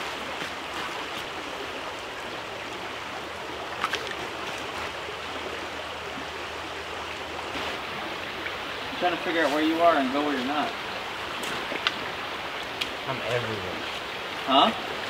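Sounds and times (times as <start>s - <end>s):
creek water running over rocks: 0.0s - 15.0s.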